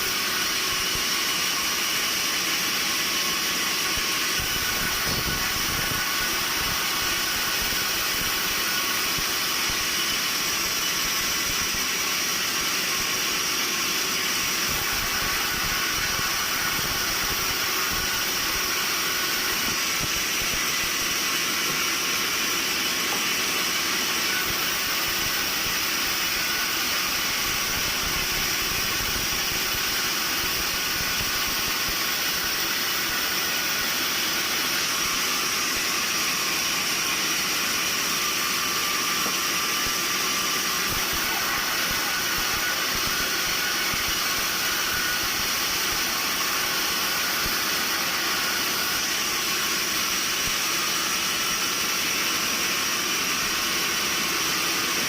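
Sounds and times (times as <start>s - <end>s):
sawmill machinery hissing drone: 0.0s - 55.0s.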